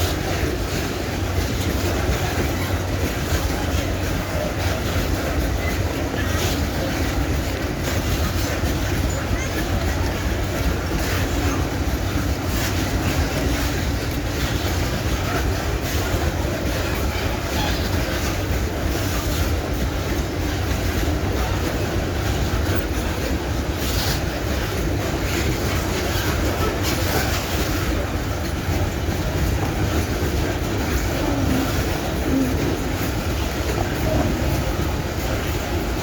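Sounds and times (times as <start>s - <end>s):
train wheels rumbling on rails: 0.0s - 36.0s
wheels clacking over rail joints: 0.0s - 36.0s.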